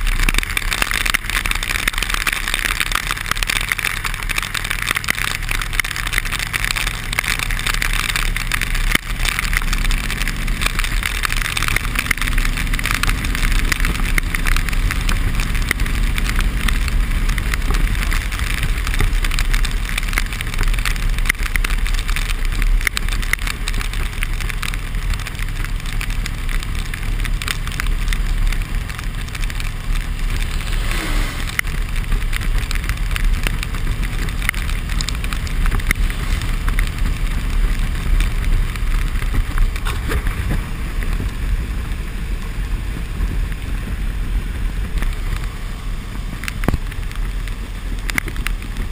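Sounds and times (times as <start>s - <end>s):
hiss of wind rain and tyre spray: 0.0s - 48.9s
motorcycle engine running: 0.0s - 48.9s.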